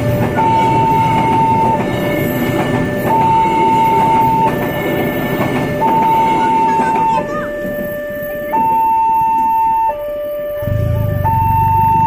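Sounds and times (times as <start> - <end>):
train rumbling past: 0.0 - 12.0
two-tone crossing siren: 0.0 - 12.0.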